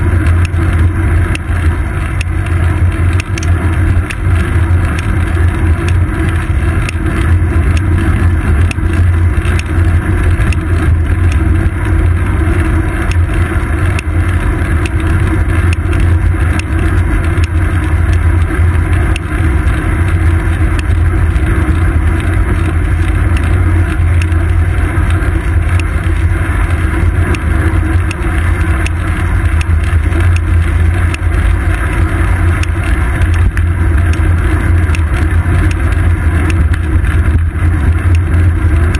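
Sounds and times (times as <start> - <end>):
bike rolling over asphalt: 0.0 - 38.9
faint ticking clicks: 0.1 - 38.9.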